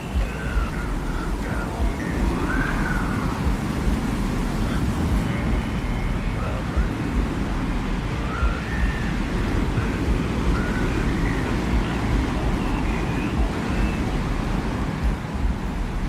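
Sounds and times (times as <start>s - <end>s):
faint high whistles: 0.0s - 15.2s
deep rumbling wind: 0.0s - 16.0s.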